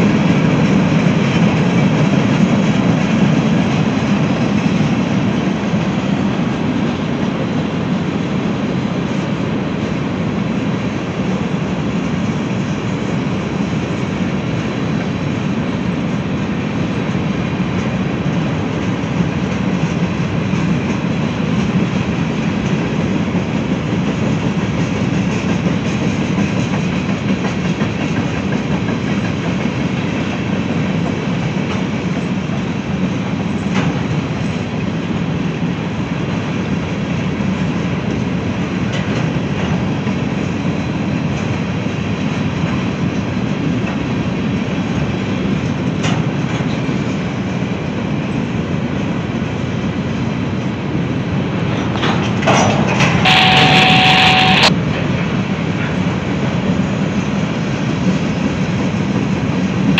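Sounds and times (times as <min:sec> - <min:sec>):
rumble of train wheels on rail: 0:00.0 - 0:59.9.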